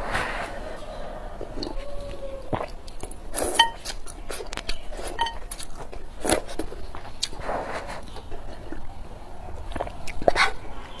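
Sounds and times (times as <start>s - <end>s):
chewing: 1.4s - 11.0s.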